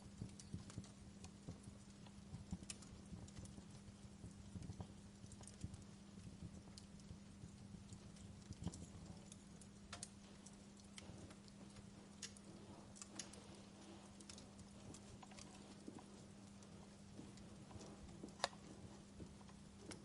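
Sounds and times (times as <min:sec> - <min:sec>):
steady low hum: 0:00.0 - 0:20.0
wood fire crackling: 0:00.0 - 0:20.0.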